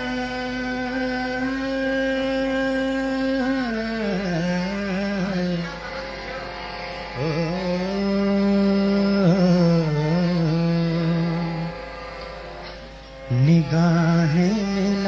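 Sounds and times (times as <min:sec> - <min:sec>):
slow melody with sliding notes: 0:00.0 - 0:15.0.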